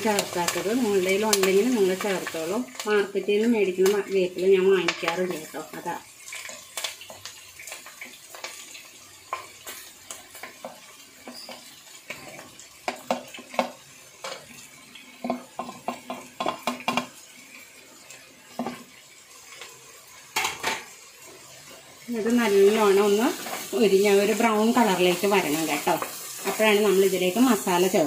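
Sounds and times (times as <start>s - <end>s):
onions sizzling in oil: 0.0s - 28.0s.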